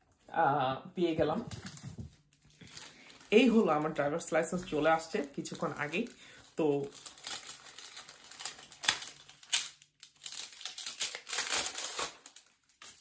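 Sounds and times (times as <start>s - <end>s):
paper envelope crinkling: 1.4s - 13.0s.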